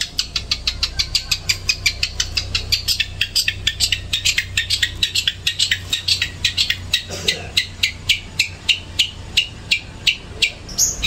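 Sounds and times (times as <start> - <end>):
songbird calling in sharp notes: 0.0 - 11.0
steady low hum: 0.0 - 11.0.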